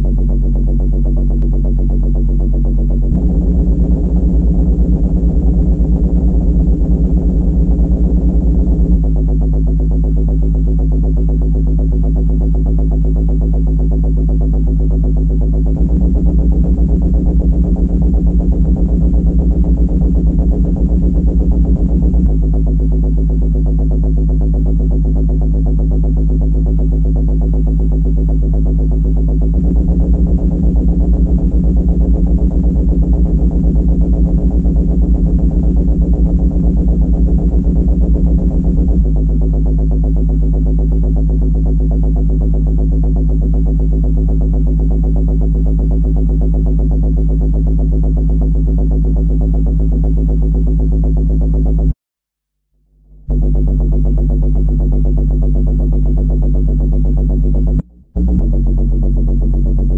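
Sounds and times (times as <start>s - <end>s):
electronic drone with pulsing flutter: 0.0s - 52.0s, 53.0s - 59.9s.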